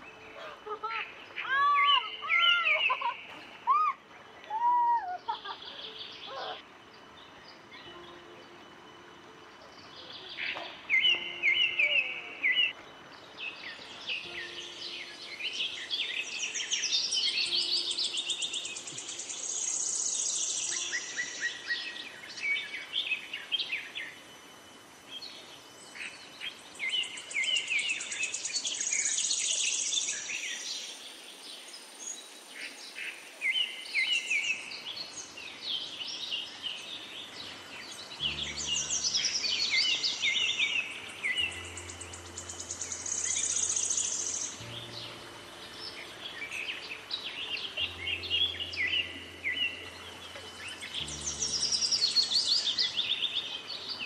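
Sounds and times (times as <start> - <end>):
birds singing and chirping: 0.0 - 54.0
faint steady hiss: 0.0 - 54.0.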